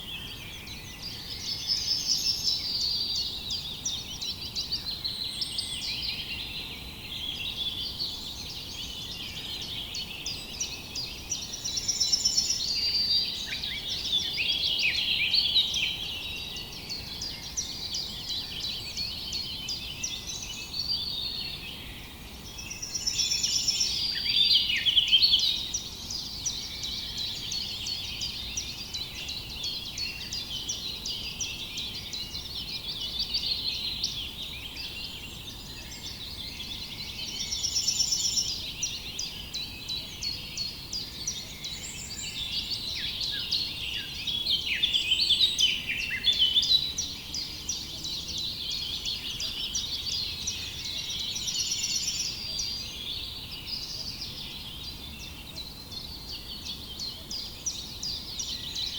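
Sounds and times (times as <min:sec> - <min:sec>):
small birds chirping in chorus: 0:00.0 - 0:58.9.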